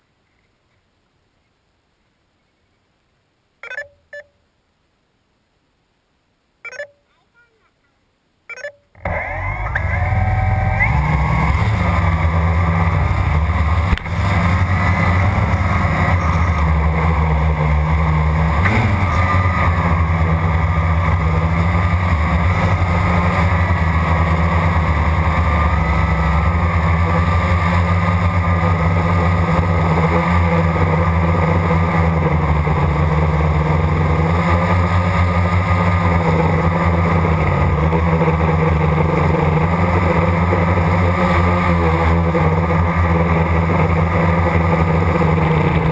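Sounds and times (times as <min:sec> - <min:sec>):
drone propellers whirring: 0:08.5 - 0:45.9.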